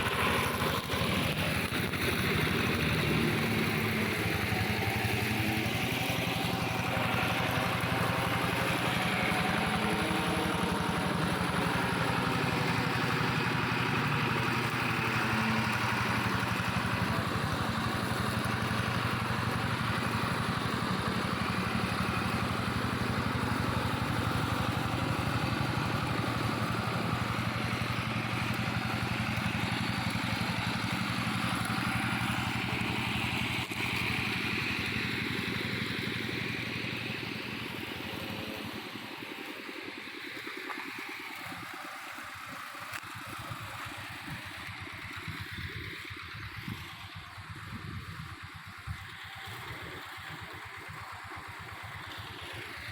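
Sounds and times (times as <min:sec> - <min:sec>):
tractor mower engine running: 0:00.0 - 0:52.9.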